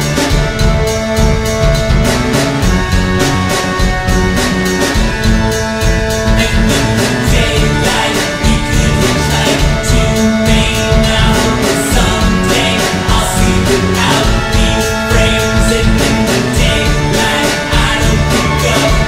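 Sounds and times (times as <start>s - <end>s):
country song with guitar: 0.0s - 19.0s.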